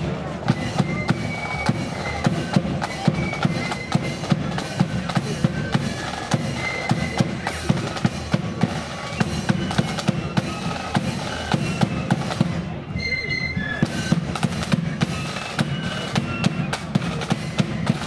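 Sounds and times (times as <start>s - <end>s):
faint high flute notes: 0.0s - 18.0s
marching band drums: 0.0s - 18.0s.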